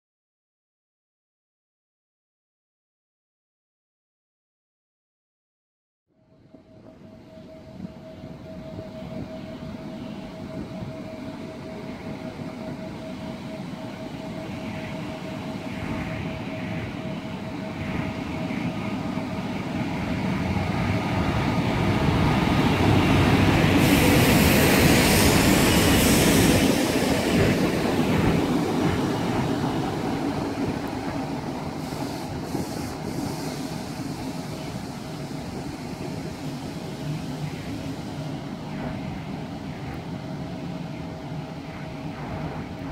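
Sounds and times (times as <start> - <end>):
rail and running noise: 6.1 - 42.9
electric locomotive passing: 6.2 - 42.9.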